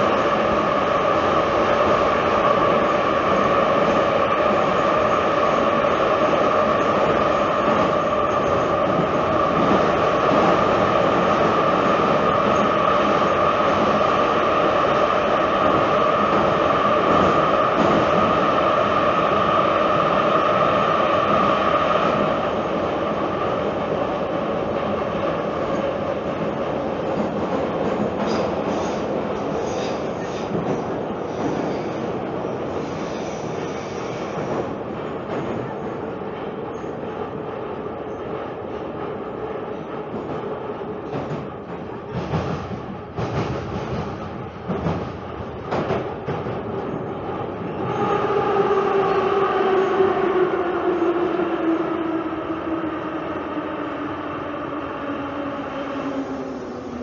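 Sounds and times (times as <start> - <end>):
metro train running noise: 0.0 - 57.0
train whine: 0.0 - 57.0.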